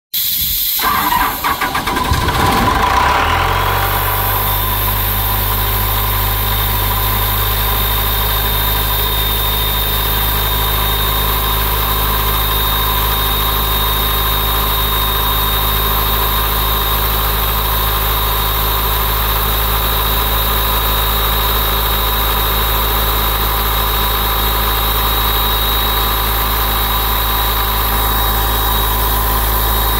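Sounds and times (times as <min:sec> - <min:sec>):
diesel engine starting and idling: 0:00.2 - 0:29.9.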